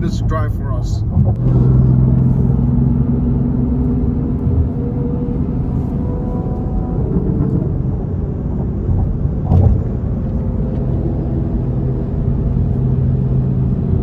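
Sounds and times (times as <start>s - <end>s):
car engine driving: 0.0s - 14.0s
road rumble: 0.0s - 14.0s.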